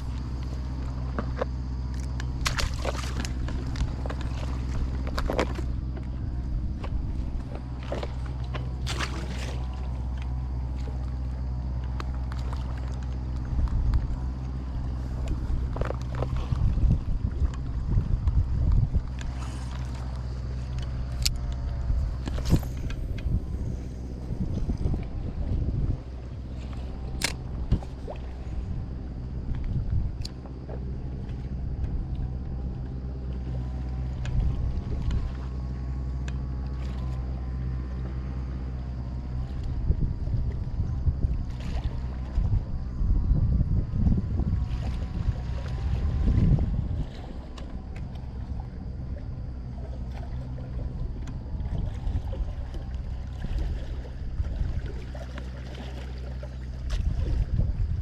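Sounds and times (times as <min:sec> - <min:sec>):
wind buffeting microphone: 0:00.0 - 0:36.1, 0:37.1 - 0:55.5, 0:56.2 - 0:58.0
low engine hum: 0:00.0 - 0:58.0.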